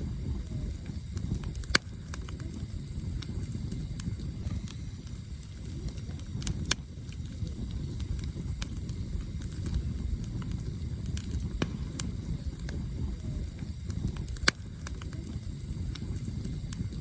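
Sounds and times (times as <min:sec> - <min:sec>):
campfire crackling: 0:00.0 - 0:17.0
sharp pops of burning wood: 0:00.0 - 0:17.0
steady low rumble: 0:00.0 - 0:17.0.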